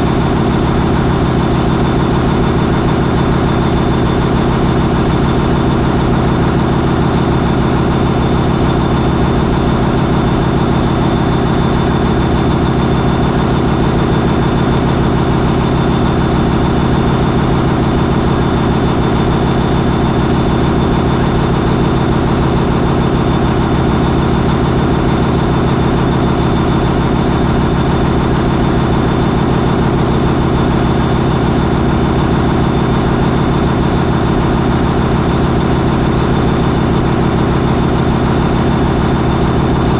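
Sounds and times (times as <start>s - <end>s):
marine diesel engine running: 0.0s - 39.9s.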